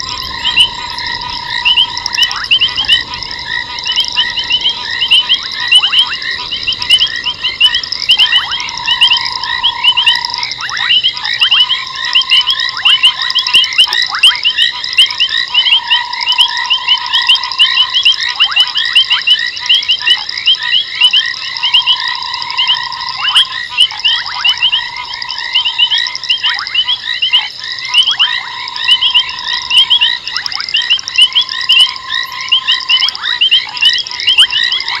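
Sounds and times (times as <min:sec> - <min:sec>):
frogs calling high-pitched: 0:00.0 - 0:35.0
low frog trill: 0:00.0 - 0:35.0
short falling frog calls: 0:00.0 - 0:35.0.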